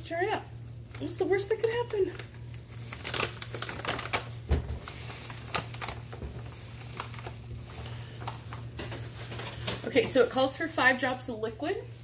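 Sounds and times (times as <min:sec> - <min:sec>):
plastic pouch crinkling: 0:00.0 - 0:12.0.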